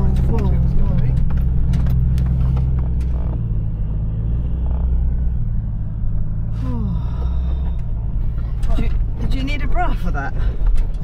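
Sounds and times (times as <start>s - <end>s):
car engine humming in cabin: 0.0s - 11.0s.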